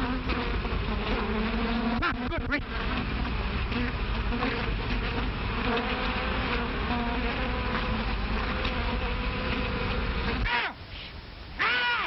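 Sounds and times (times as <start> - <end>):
bees buzzing: 0.0 - 10.8.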